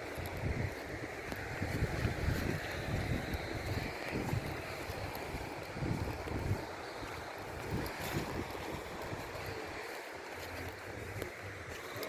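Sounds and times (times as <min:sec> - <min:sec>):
steady rushing noise: 0:00.0 - 0:12.0
wind buffeting microphone: 0:00.0 - 0:12.0.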